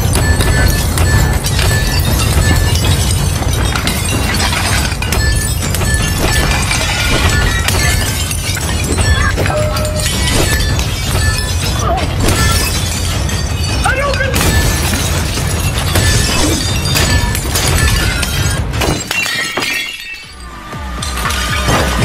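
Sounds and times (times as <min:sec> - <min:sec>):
ceramic plates smashing: 0:00.0 - 0:22.0.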